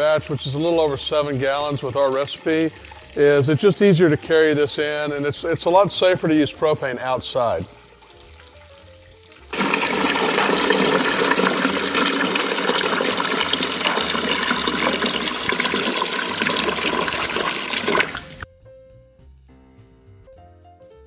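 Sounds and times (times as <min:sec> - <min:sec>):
water pouring into metal pot: 0:00.0 - 0:18.4.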